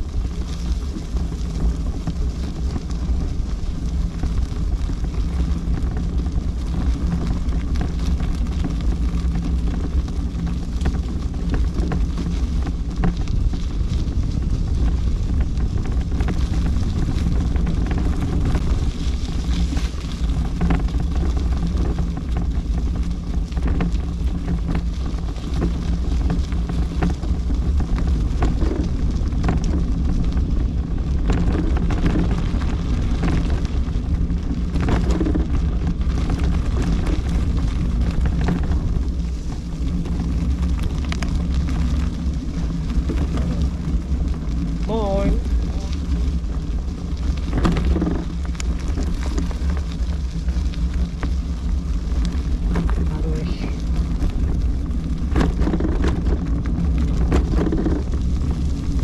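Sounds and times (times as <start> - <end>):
low rumble: 0.0 - 59.0
wind on microphone: 0.0 - 59.0.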